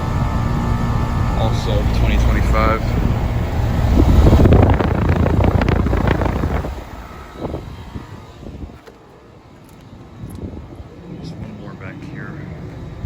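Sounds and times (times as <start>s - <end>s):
heat pump fan running: 0.0s - 13.0s
wind rumbling on microphone: 0.0s - 13.0s.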